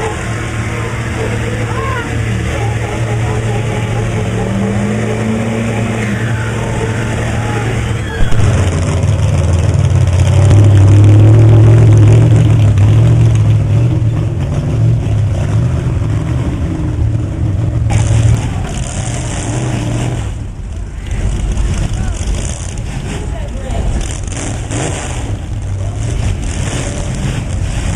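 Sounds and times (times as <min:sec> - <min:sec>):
truck engine revving hard: 0:00.0 - 0:27.9.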